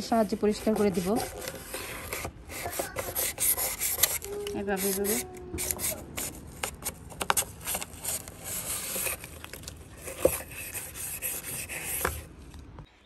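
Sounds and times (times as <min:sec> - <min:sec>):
brush scrubbing window track: 0:00.0 - 0:12.3.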